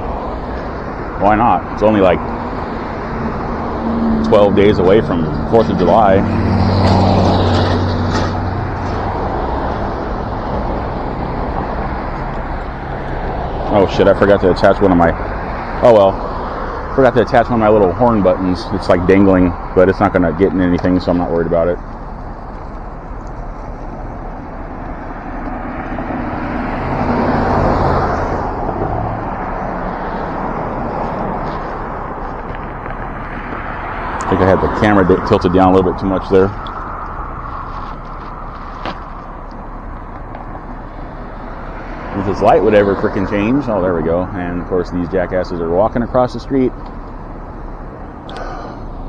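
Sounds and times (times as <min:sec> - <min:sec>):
vehicle engine hum: 0:00.0 - 0:49.0
wind and road noise: 0:00.0 - 0:49.0.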